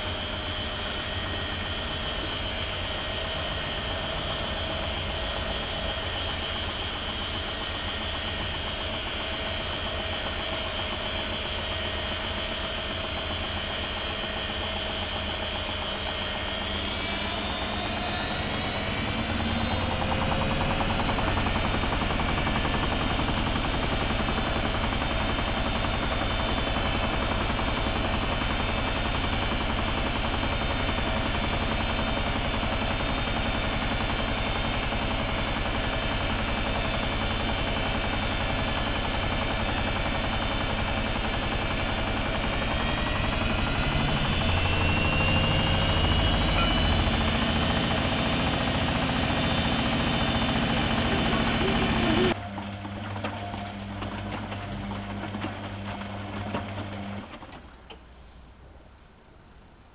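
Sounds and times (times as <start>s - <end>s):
washing machine spinning: 0.0s - 58.2s.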